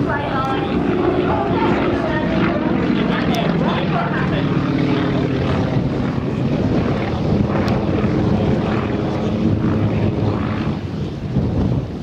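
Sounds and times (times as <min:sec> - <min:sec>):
model aircraft engine droning: 0:00.0 - 0:12.0.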